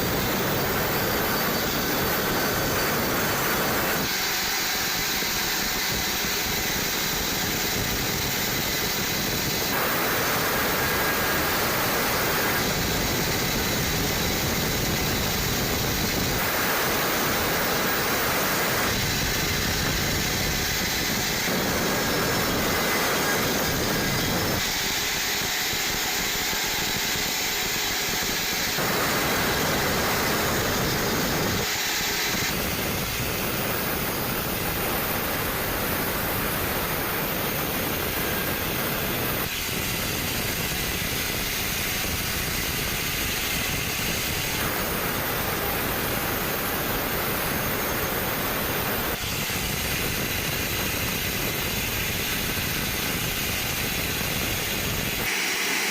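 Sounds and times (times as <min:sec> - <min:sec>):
band sawmill running: 0:00.0 - 0:55.9.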